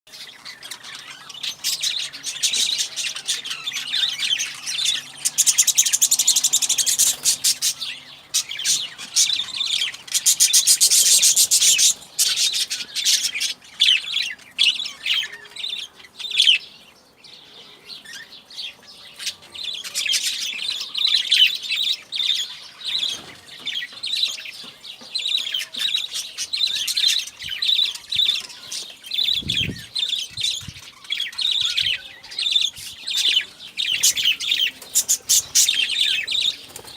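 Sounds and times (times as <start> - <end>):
birds chirping: 0.1 - 36.9.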